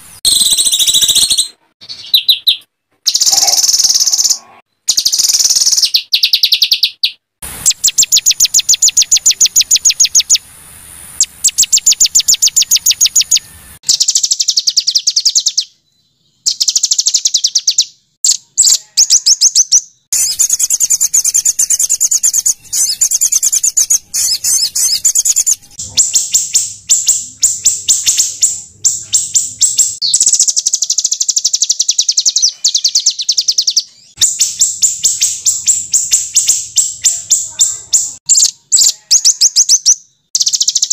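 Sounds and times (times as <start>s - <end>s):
songbird rapid high chirps: 0.0s - 10.5s, 11.2s - 40.9s.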